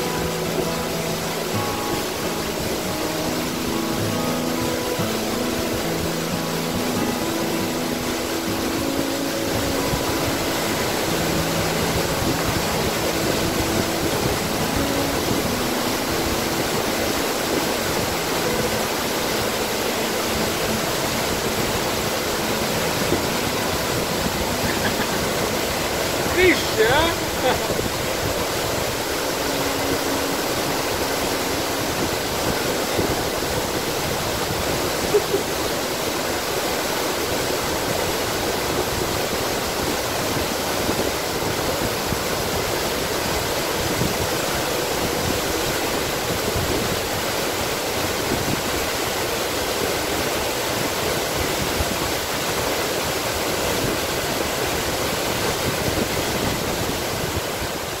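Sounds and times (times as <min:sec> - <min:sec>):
waterfall pouring onto rocks: 0:04.4 - 0:58.0.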